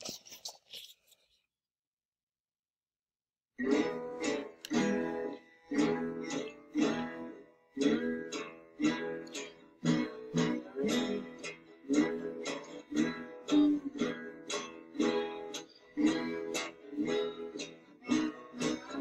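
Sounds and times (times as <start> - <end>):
acoustic guitar strumming: 3.6 - 19.0.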